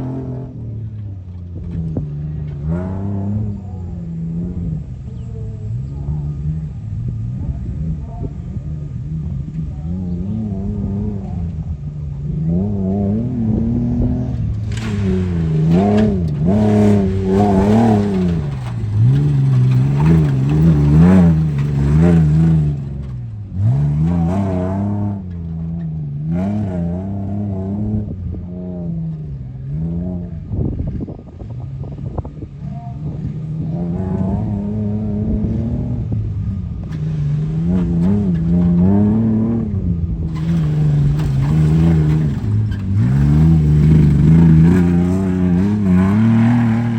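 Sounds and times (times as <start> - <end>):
truck engine revving hard: 0.0 - 5.1, 5.7 - 46.9.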